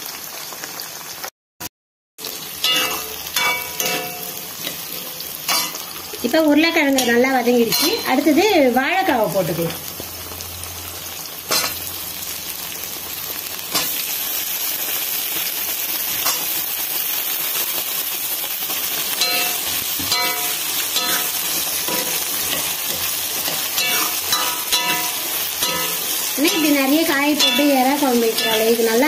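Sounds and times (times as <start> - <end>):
vegetables sizzling in hot oil: 0.0 - 1.3, 2.2 - 29.0.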